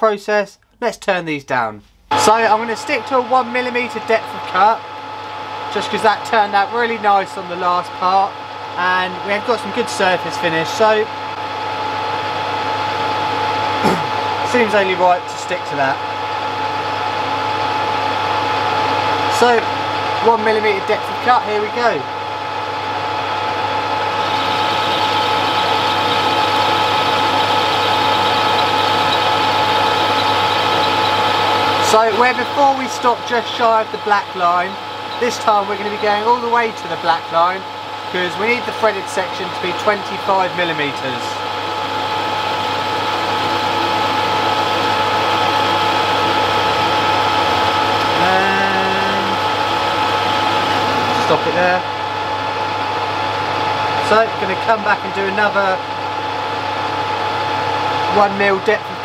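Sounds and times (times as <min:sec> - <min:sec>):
turning tool cutting metal: 0:02.1 - 0:11.0, 0:12.0 - 0:59.0
lathe motor and gear whine: 0:02.1 - 0:59.0.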